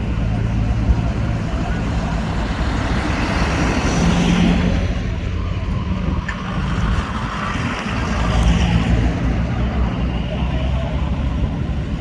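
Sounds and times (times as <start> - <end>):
heavy vehicle engine humming: 0.0 - 12.0.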